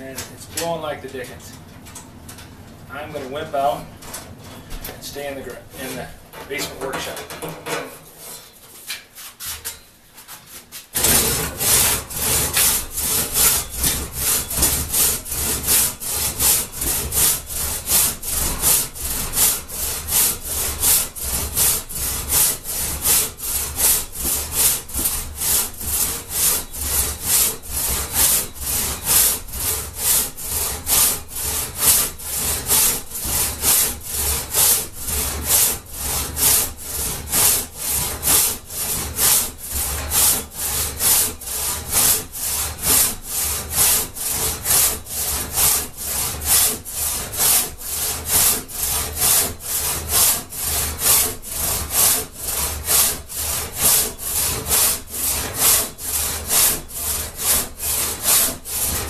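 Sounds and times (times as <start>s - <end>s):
hand saw cutting log: 5.2s - 7.2s, 10.6s - 59.0s.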